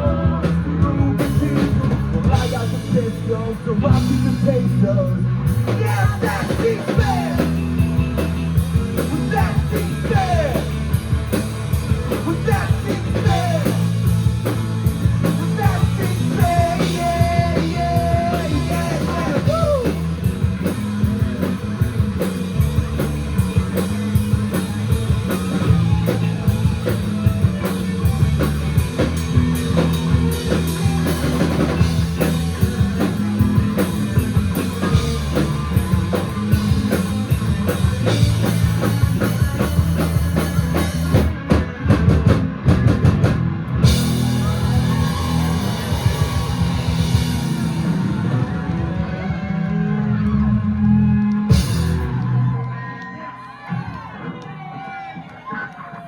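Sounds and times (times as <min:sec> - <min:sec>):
bending lead guitar melody: 0:00.0 - 0:52.5
live rock band playing: 0:00.0 - 0:52.8.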